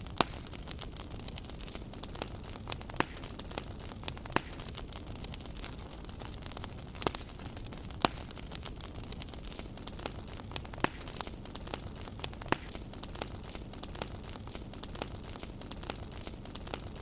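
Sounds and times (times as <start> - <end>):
campfire crackling and popping: 0.0 - 17.0
fire snaps: 0.0 - 17.0.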